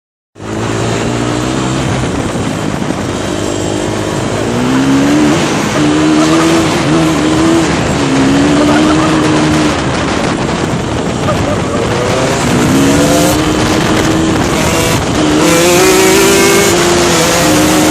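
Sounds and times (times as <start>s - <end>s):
dirt bike engine revving: 0.4s - 17.9s.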